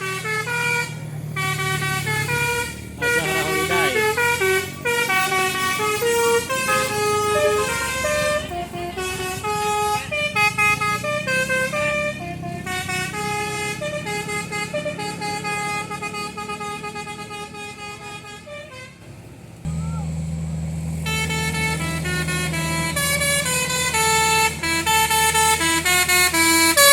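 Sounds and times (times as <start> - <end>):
horn playing a tune: 0.0 - 19.0, 21.0 - 26.9
low bus engine rumble: 0.0 - 26.9.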